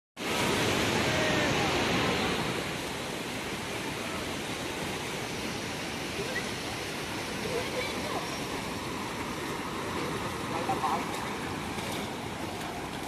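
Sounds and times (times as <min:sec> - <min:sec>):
floodwater rushing: 0:00.2 - 0:13.0.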